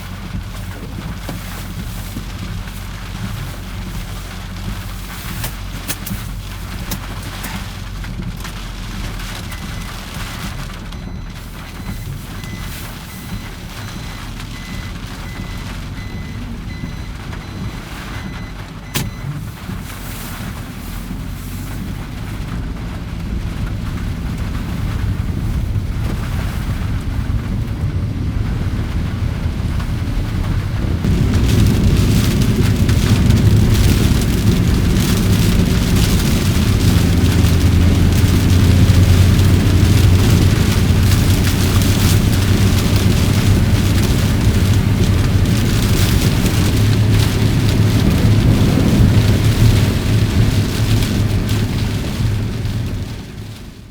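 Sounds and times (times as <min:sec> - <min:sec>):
rain hiss: 0:00.0 - 0:53.9
wind rumble: 0:00.0 - 0:53.9.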